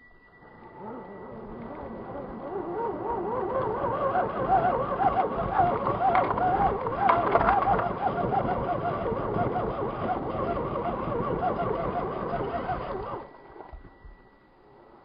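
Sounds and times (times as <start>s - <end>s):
electric motor and gearbox whine: 0.0s - 15.0s.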